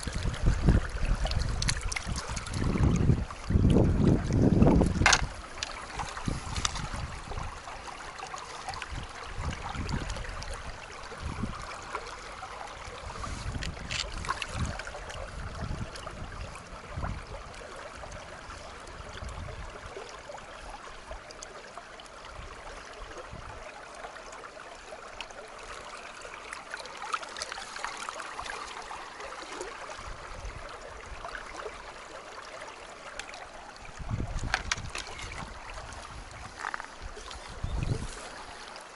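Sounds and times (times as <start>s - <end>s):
river running over stones: 0.0s - 38.9s.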